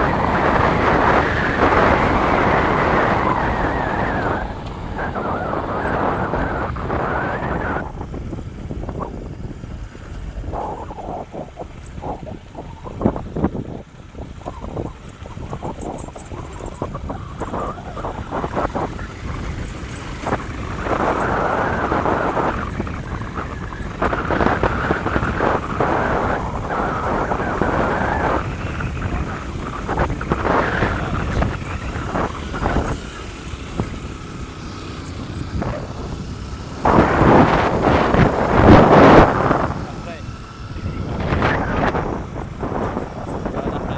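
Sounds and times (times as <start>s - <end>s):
vehicle rumbling on dirt road: 0.0s - 43.9s
wind buffeting microphone: 0.0s - 43.9s.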